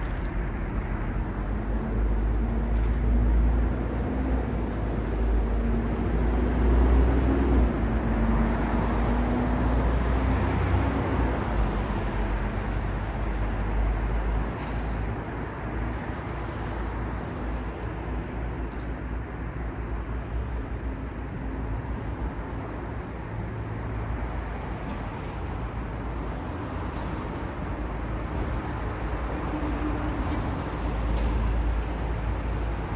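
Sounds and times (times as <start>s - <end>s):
heavy vehicle engine hum: 0.0s - 32.9s
road noise rumble: 0.0s - 32.9s.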